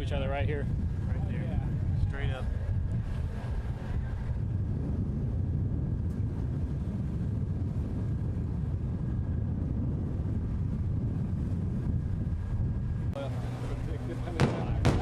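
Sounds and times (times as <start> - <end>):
steady deep rumble: 0.0 - 15.0.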